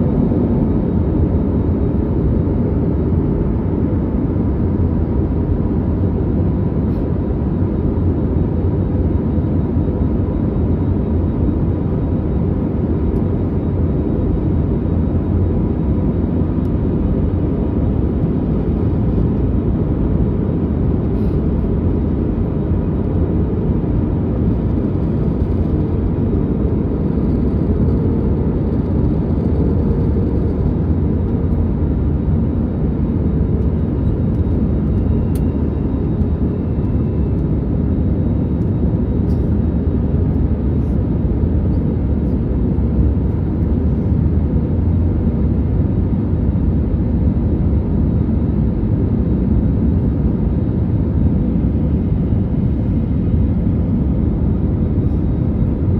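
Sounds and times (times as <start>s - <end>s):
airliner cabin airflow and engine: 0.0s - 55.9s.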